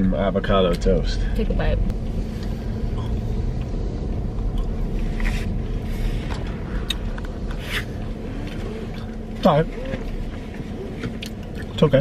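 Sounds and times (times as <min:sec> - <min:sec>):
car interior rumble: 0:00.0 - 0:12.0
faint steady hum: 0:00.0 - 0:12.0.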